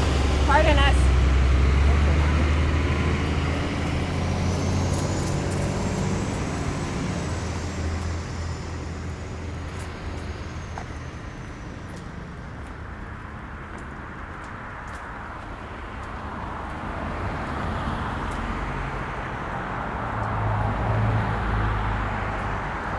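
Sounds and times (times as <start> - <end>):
vehicle engine driving away: 0.0 - 14.4, 15.3 - 22.9.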